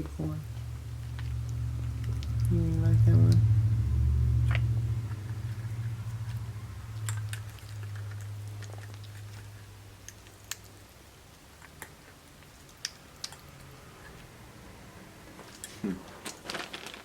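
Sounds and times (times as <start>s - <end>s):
low steady hum: 0.0s - 17.0s
monkey chewing corn: 0.7s - 16.9s.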